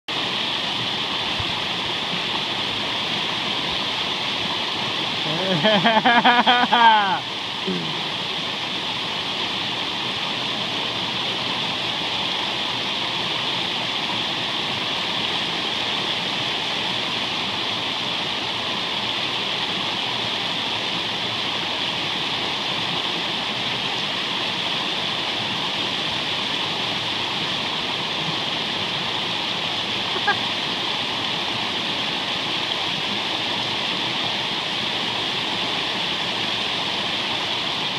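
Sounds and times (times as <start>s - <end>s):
river water rushing over rocks: 0.1s - 37.9s.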